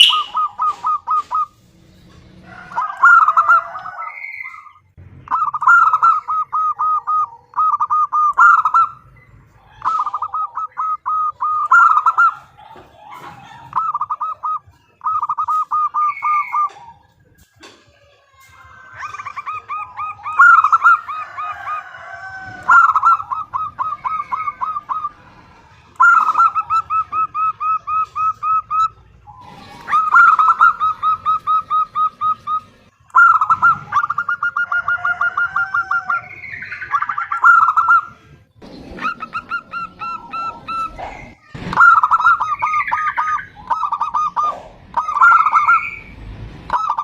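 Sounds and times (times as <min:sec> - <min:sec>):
dove calling in clipped notes: 0:00.0 - 0:17.5, 0:18.4 - 0:47.0.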